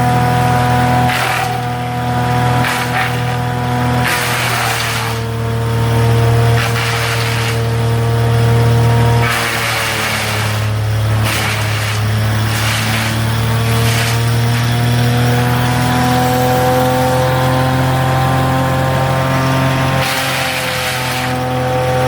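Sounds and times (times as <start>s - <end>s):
wood chipper engine revving up: 0.0s - 22.0s.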